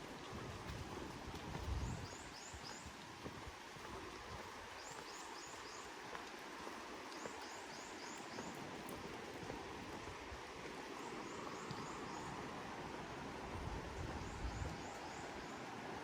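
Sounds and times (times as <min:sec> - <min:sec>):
rain pattering in forest: 0:00.0 - 0:16.0.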